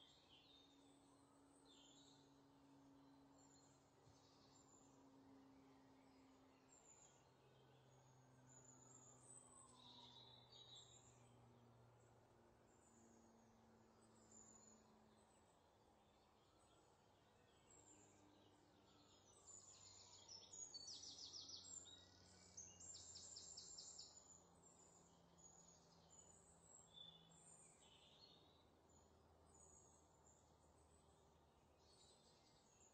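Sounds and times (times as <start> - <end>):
background hum: 0.0 - 32.9.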